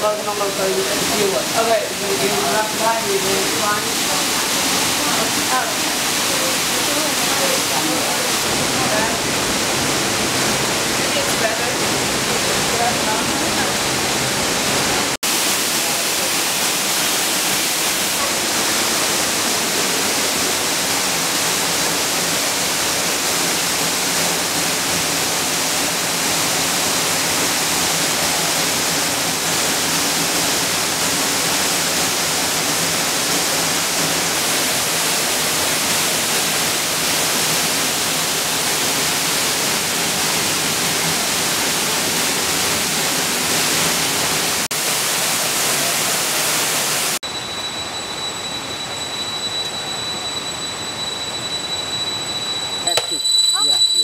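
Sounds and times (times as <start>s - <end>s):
waterfall rushing: 0.0s - 47.2s.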